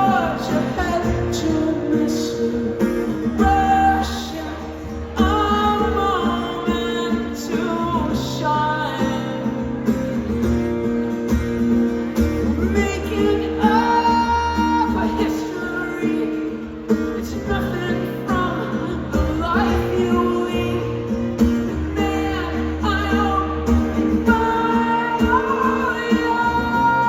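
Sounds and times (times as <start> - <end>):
person singing: 0.0 - 9.6, 12.5 - 27.0
strummed guitars: 0.0 - 27.0.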